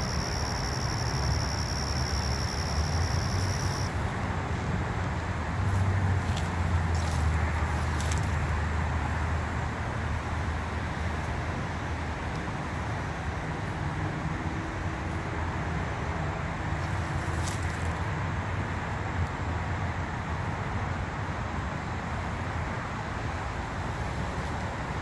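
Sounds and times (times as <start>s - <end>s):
road traffic rumble and hiss: 0.0s - 25.0s.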